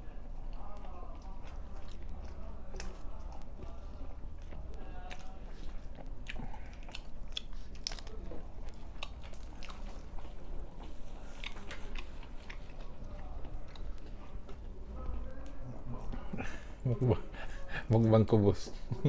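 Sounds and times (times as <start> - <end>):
man chewing with wet smacks: 0.0 - 17.0.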